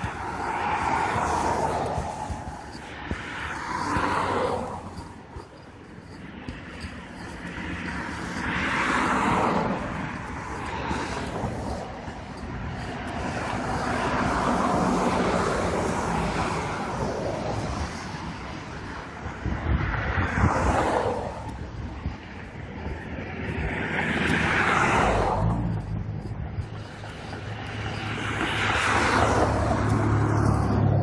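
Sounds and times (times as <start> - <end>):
cars passing by: 0.0 - 31.0.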